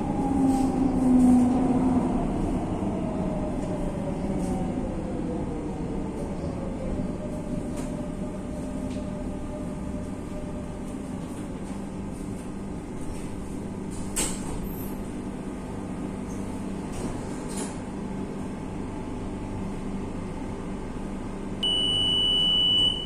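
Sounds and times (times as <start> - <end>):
train carriage humming: 0.0 - 23.0.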